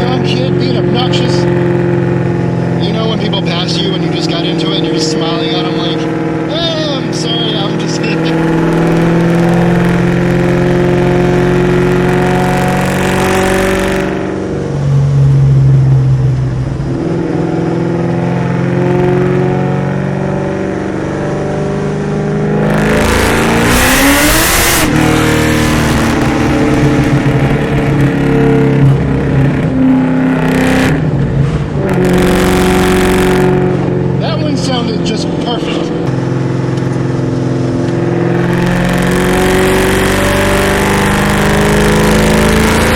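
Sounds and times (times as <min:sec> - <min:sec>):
car engine drone inside cabin: 0:00.0 - 0:42.9.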